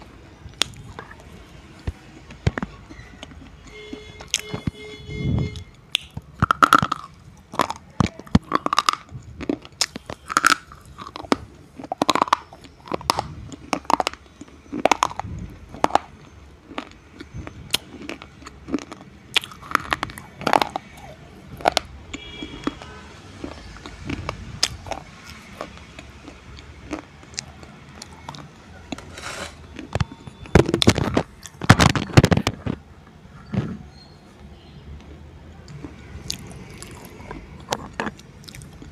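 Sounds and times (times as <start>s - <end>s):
slate pencils being chewed: 0.5s - 4.7s, 5.5s - 32.8s, 35.6s - 38.9s.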